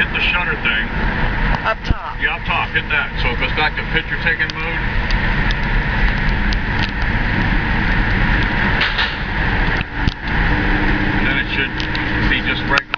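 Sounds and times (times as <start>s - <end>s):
car engine rumble from inside: 0.0s - 12.9s.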